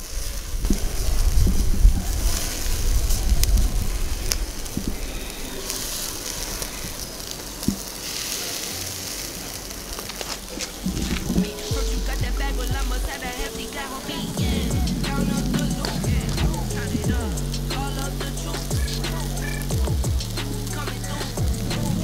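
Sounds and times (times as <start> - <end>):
low rumble: 0.0 - 7.6, 10.8 - 22.0
meat sizzling on a grill: 0.0 - 22.0.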